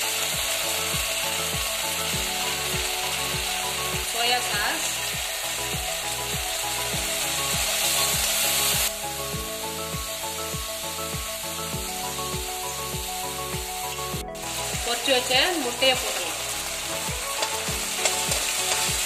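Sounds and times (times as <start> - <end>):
background music with a beat: 0.0 - 19.0
vegetables sizzling in a wok: 0.0 - 19.0.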